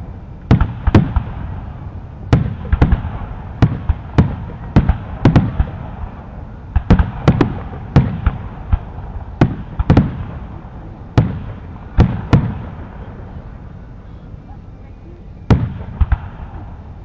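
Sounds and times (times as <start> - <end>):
fireworks bangs with low rumble: 0.0 - 13.7, 15.5 - 17.0.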